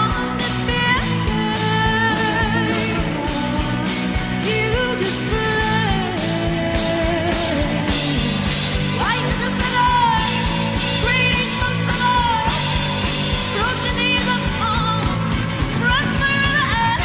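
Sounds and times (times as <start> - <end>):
bass guitar: 0.0 - 17.0
distorted electric guitars: 0.0 - 17.0.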